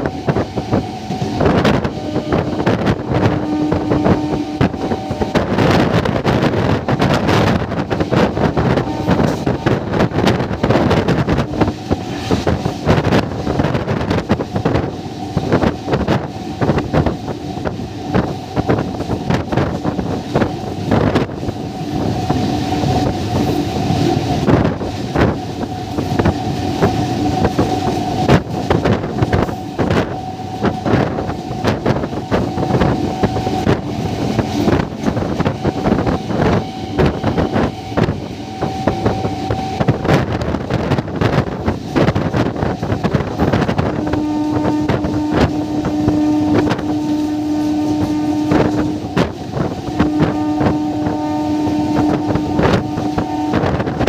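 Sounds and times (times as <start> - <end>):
train wheels clattering over rails: 0.0 - 51.2
long steady note: 0.0 - 54.0
wind on the microphone: 0.0 - 54.0.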